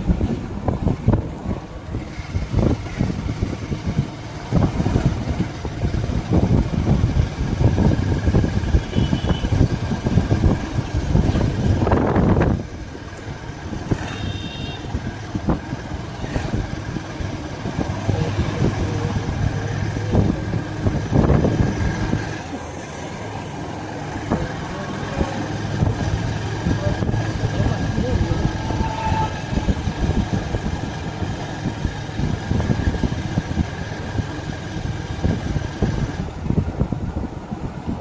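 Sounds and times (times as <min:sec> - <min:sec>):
road and wind rumble: 0:00.0 - 0:38.0
motorcycle engine running: 0:01.9 - 0:37.4.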